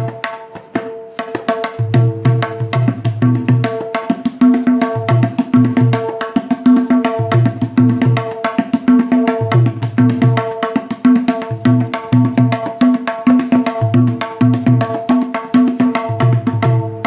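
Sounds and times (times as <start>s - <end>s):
tabla playing fast rhythm: 0.0s - 17.0s.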